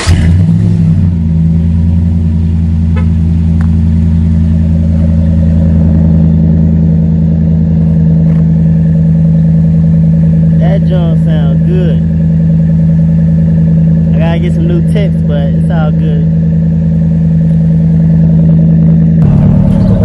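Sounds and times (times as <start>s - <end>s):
pickup truck engine idling: 0.0s - 20.0s.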